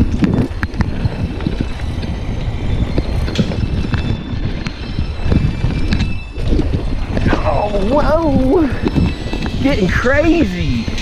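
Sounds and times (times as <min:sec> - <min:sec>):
bike parts rattling: 0:00.0 - 0:11.0
tyres rumbling on dirt: 0:00.0 - 0:11.0
wind on microphone: 0:00.0 - 0:11.0.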